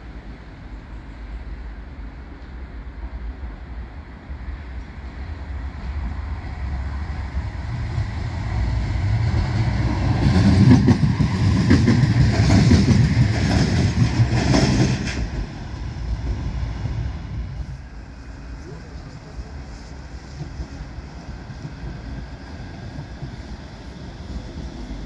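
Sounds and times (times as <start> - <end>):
tram passing: 0.0 - 25.0.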